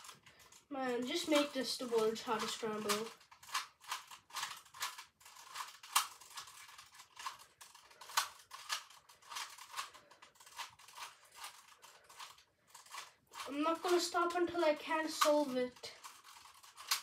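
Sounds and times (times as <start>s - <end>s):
rubik's cube clicking rattles: 0.0s - 17.0s.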